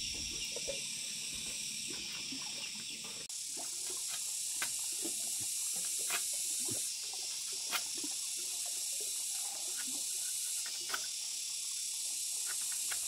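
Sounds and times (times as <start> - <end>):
high insect hiss: 0.0 - 13.0.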